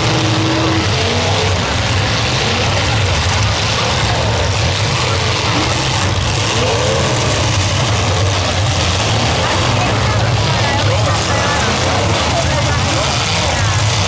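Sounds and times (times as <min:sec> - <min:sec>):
car engines droning: 0:00.0 - 0:14.0.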